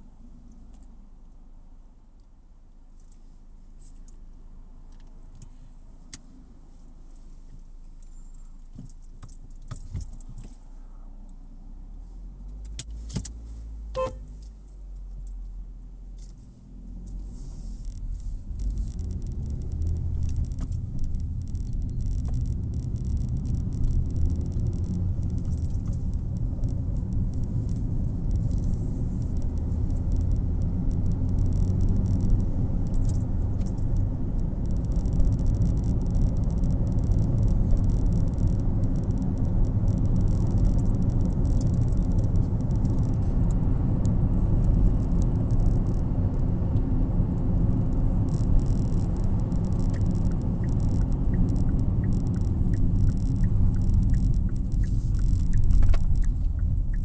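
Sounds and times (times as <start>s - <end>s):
car cabin road and engine rumble: 0.0s - 57.0s.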